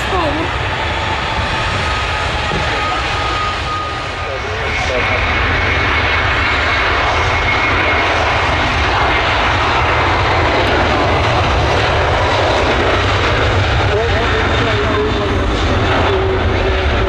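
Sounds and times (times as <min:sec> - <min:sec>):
jet engines at high power: 0:00.0 - 0:17.0.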